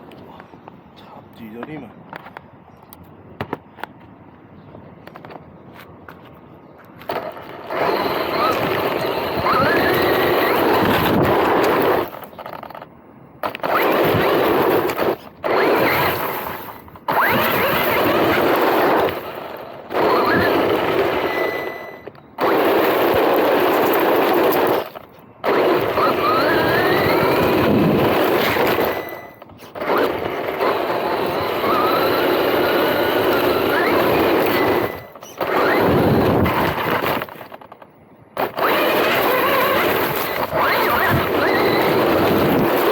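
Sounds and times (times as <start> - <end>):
rc car tyres over rough ground: 5.0 - 42.9
faint electric motor whine: 6.1 - 42.9.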